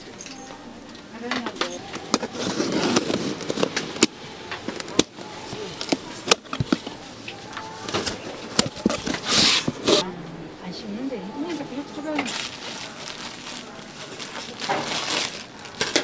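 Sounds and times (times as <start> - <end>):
cooking utensils clicking and knocking: 0.0 - 10.0, 12.1 - 16.0
faint background voices: 0.0 - 16.0.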